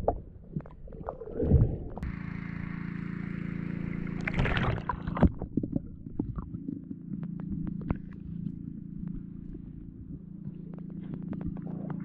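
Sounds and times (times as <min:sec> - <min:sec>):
underwater droning hum: 0:00.0 - 0:12.0.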